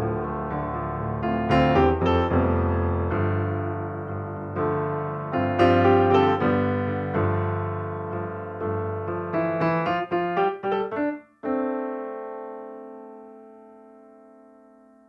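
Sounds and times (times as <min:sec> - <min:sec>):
soft solo piano music: 0:00.0 - 0:15.0.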